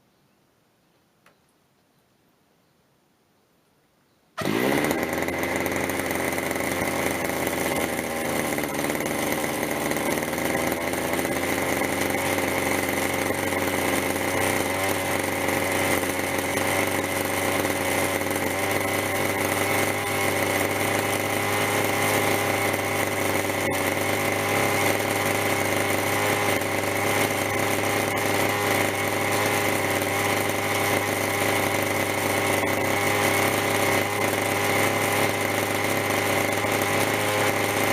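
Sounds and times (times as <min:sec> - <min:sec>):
model helicopter engine running: 0:04.4 - 0:37.9.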